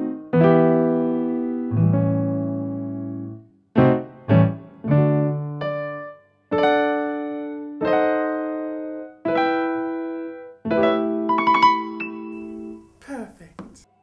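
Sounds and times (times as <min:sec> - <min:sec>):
keyboard chords: 0:00.0 - 0:13.0.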